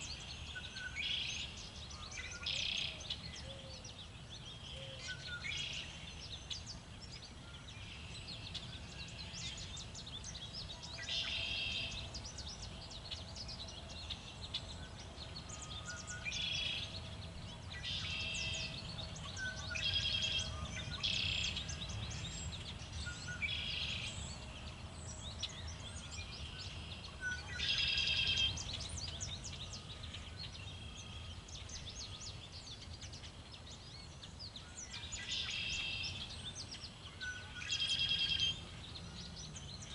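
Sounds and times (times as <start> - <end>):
low rumble of wind: 0.0 - 39.9
songbirds chirping: 0.0 - 39.9.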